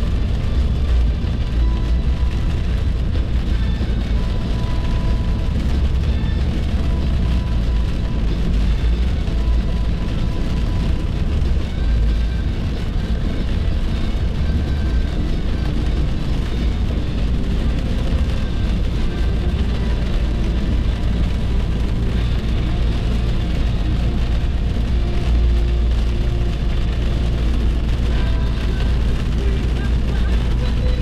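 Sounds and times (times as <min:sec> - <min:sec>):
deep continuous rumble: 0:00.0 - 0:31.0
road and wind noise: 0:00.0 - 0:31.0.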